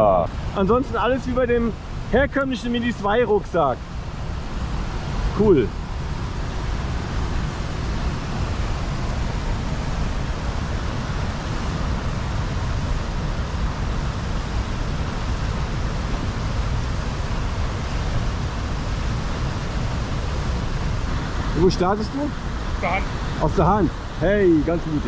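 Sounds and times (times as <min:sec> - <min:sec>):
waterfall roar: 0:00.0 - 0:25.0.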